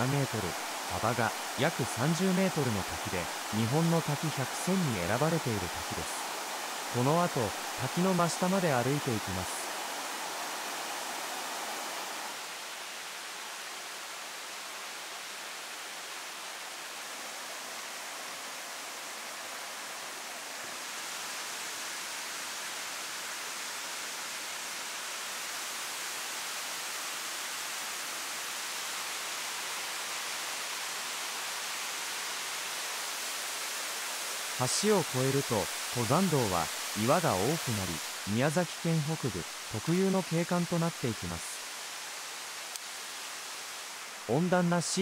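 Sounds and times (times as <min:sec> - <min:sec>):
flowing water rushing: 0:00.0 - 0:45.0.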